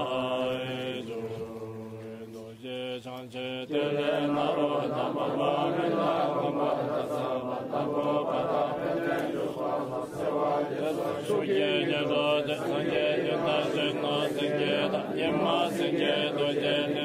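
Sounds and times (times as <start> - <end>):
voices chanting: 0.0 - 17.0.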